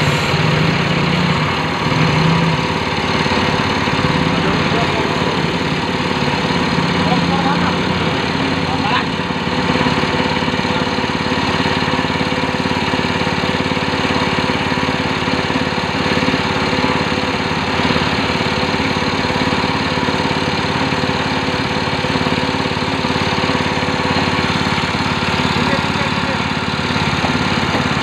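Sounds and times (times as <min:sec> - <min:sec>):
small petrol engine idling: 0:00.0 - 0:28.0.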